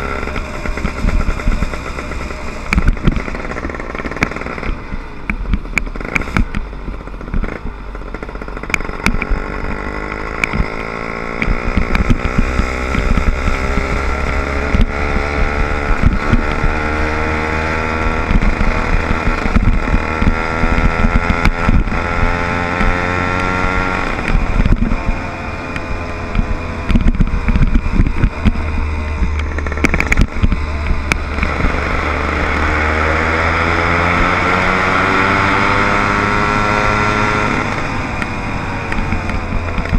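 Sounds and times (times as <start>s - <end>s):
small motorized bike engine: 0.0s - 39.9s.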